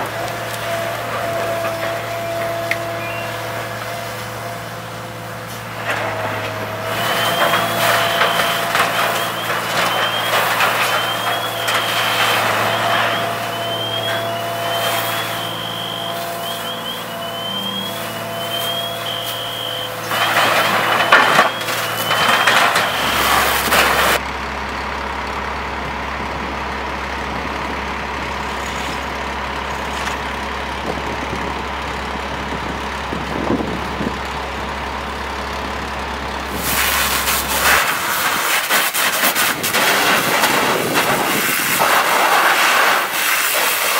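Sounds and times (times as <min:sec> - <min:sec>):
heavy machinery engine running: 0:00.0 - 0:43.9.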